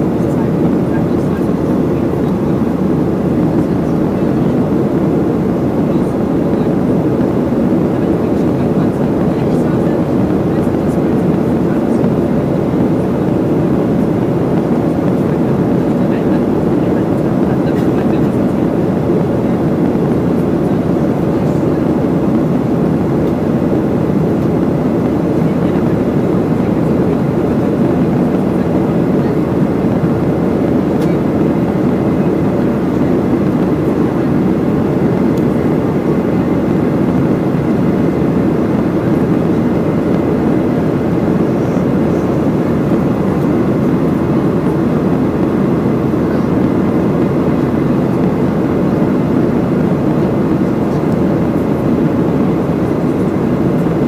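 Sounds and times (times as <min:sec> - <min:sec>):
airplane cabin jet engine noise: 0:00.0 - 0:54.0.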